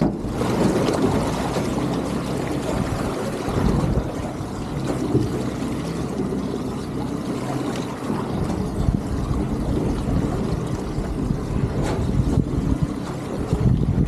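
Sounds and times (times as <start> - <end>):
boat motor running: 0.0 - 14.0
wind and water hiss: 0.0 - 14.0.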